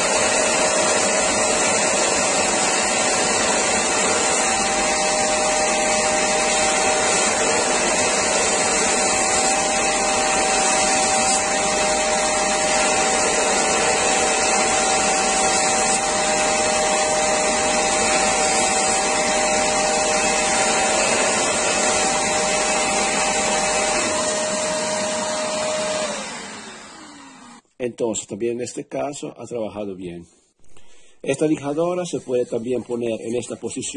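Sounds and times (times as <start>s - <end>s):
belt sander running: 0.0s - 27.6s
wood against sanding belt: 0.0s - 27.6s, 31.4s - 33.7s.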